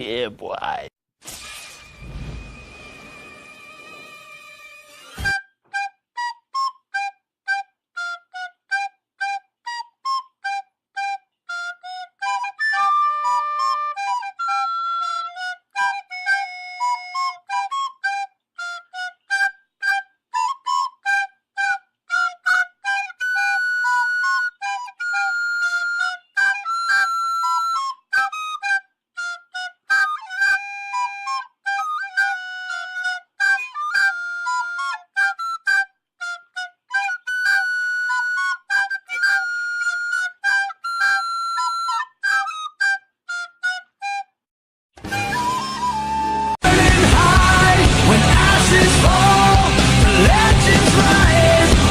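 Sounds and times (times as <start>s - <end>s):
flute-like woodwind melody: 2.2s - 44.4s, 45.0s - 51.9s.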